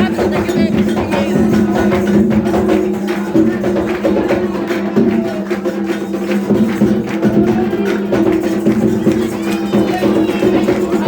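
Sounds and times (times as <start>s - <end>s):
drumming and percussion: 0.0s - 11.0s.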